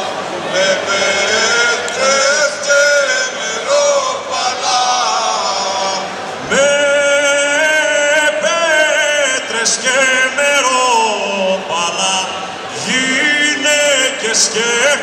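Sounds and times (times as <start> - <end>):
group of men singing: 0.5 - 15.0
man singing alone: 0.5 - 15.0.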